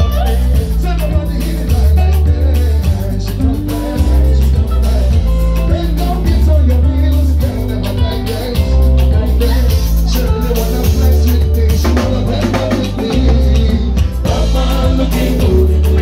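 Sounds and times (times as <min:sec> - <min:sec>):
deep bass line: 0:00.0 - 0:16.0
drum kit: 0:00.0 - 0:16.0
singers on microphones: 0:00.0 - 0:16.0.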